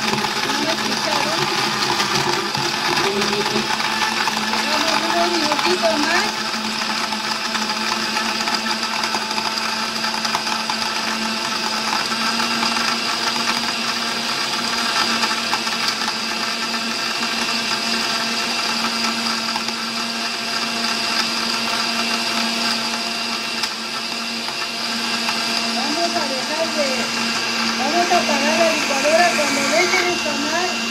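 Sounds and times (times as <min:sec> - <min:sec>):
blender blending ice: 0:00.0 - 0:30.9.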